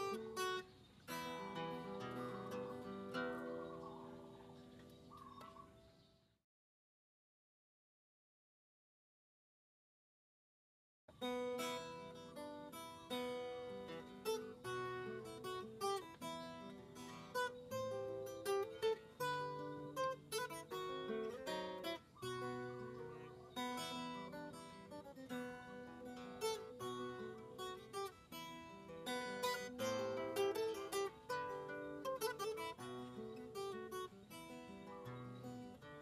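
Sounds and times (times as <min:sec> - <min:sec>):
acoustic guitar music: 0:00.0 - 0:05.8, 0:11.1 - 0:36.0.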